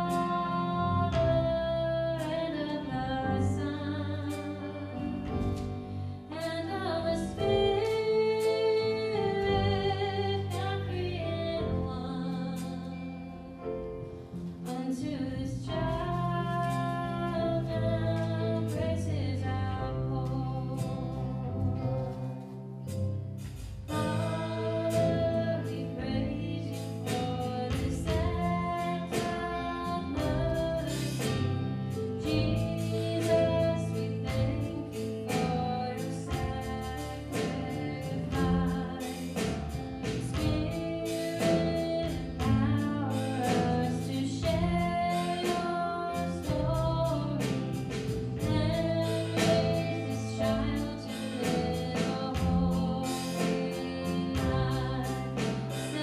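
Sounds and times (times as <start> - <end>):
worship band playing a song: 0.0 - 15.0, 15.6 - 56.0
upright bass: 0.0 - 56.0.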